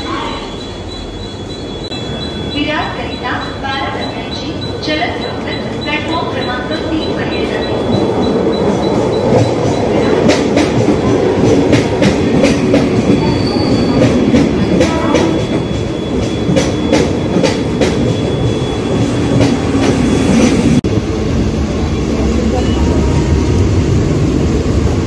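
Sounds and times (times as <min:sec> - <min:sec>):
train coaches rumbling: 0:00.0 - 0:25.0.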